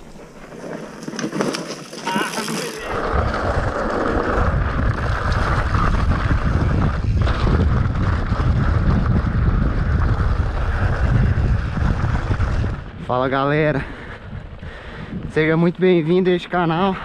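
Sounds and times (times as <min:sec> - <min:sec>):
wind buffeting microphone: 0:02.8 - 0:17.0.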